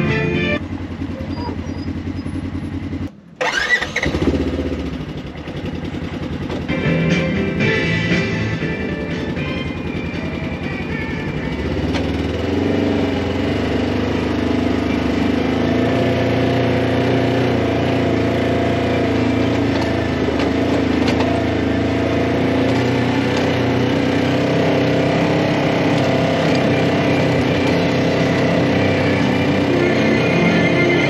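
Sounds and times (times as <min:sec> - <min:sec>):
utility vehicle engine running: 0:00.0 - 0:31.0.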